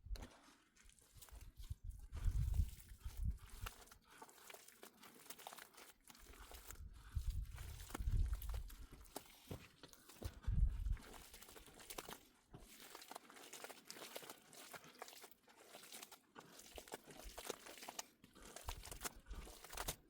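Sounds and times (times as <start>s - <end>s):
crinkling and crackling: 0.0s - 15.0s, 16.3s - 20.0s.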